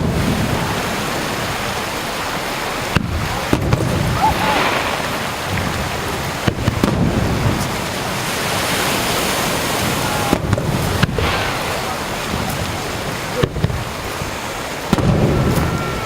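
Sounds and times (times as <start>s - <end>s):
surf breaking on shore: 0.0s - 16.0s.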